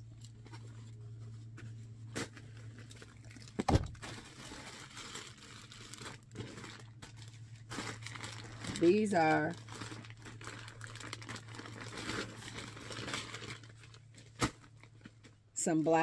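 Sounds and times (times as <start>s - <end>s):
plastic and paper crinkling: 0.0s - 15.4s
steady low hum: 0.0s - 16.0s.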